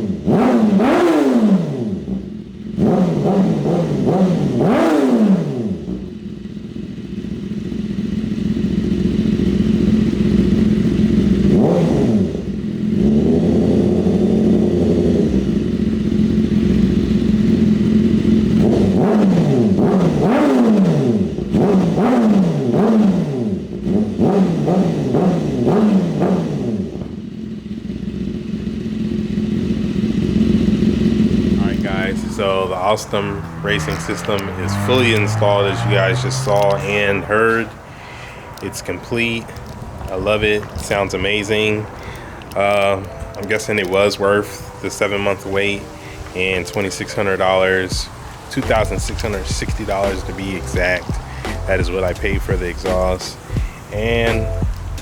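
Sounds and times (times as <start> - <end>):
motorcycle engine revving: 0.0 - 55.0
motorcycle engine idling: 1.7 - 55.0.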